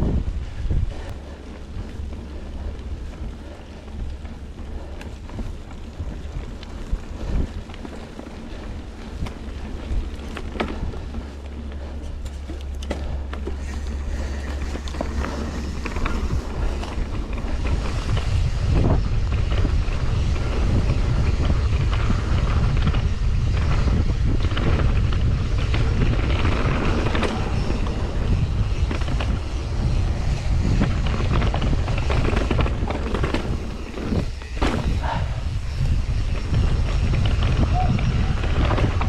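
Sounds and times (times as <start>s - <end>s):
bike rattling on rough trail: 0.0s - 39.0s
wind buffeting microphone: 0.0s - 39.0s.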